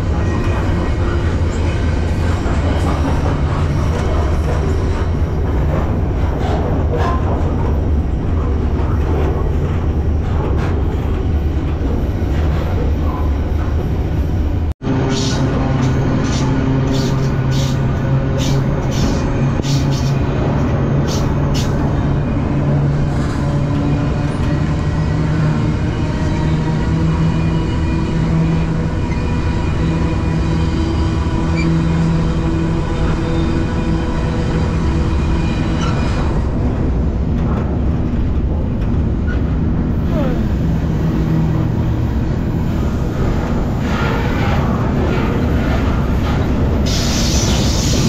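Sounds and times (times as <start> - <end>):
freight train rumbling: 0.0 - 48.0.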